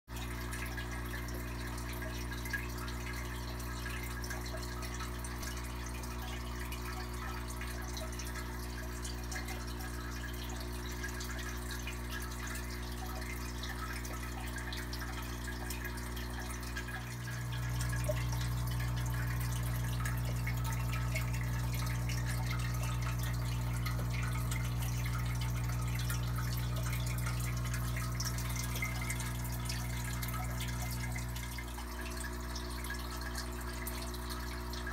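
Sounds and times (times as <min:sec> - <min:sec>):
aquarium filter humming: 0:00.1 - 0:34.9
water trickling and dripping: 0:00.1 - 0:34.9.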